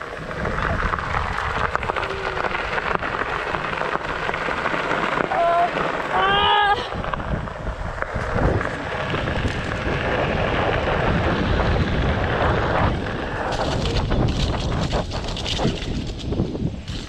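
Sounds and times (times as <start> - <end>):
tyre rolling on gravel: 0.0 - 17.0
wind buffeting microphone: 0.0 - 17.0.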